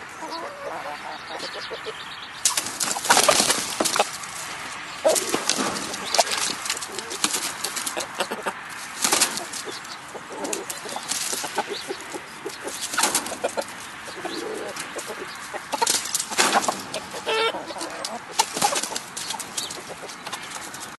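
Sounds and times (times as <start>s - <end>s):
chickens clucking: 0.0s - 21.0s
chickens flapping wings: 2.5s - 13.9s, 14.6s - 17.2s, 18.0s - 21.0s.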